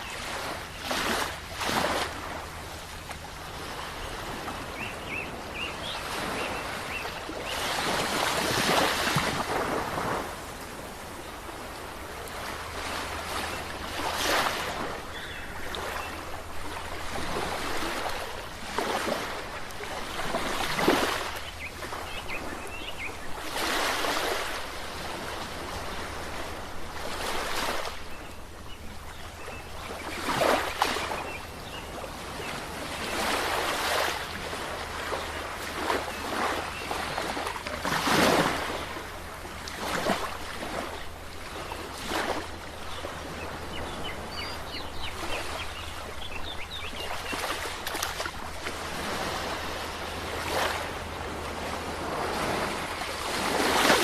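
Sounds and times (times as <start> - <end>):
ocean waves crashing on shore: 0.0 - 54.0.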